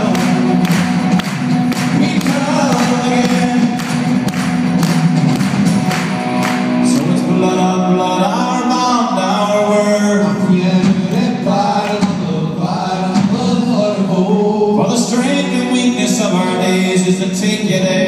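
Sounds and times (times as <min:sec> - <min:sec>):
man singing: 0:00.0 - 0:04.4, 0:06.8 - 0:18.0
rock band playing live: 0:00.0 - 0:18.0.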